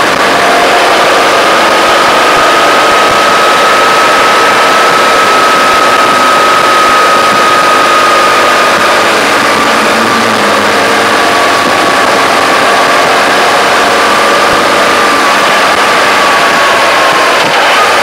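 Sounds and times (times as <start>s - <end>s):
motorcycle engine running: 0.0s - 18.0s
road and wind noise: 0.0s - 18.0s
steady high whine: 0.0s - 18.0s.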